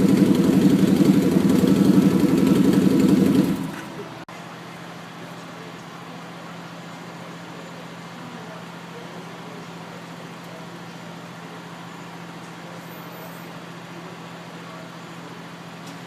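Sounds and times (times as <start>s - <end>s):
city street noise with low hum: 0.0s - 16.0s.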